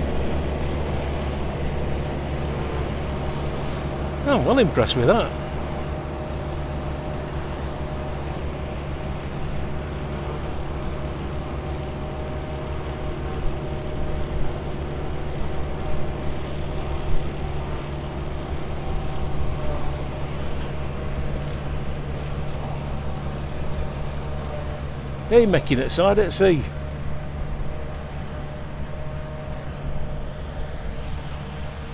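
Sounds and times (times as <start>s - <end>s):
tractor engine droning: 0.0s - 31.9s.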